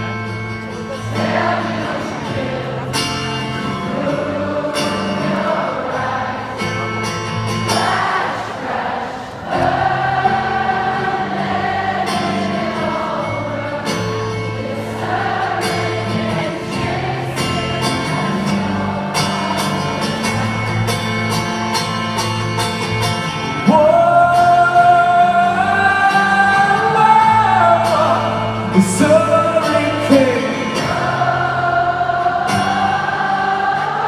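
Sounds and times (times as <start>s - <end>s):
acoustic guitar strumming: 0.0s - 34.0s
crowd singing along: 0.0s - 34.0s.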